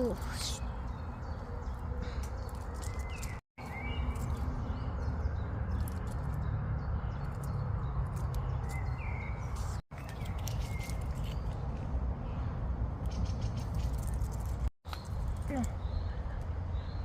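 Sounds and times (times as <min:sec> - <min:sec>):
bird chirps: 0:00.0 - 0:14.2.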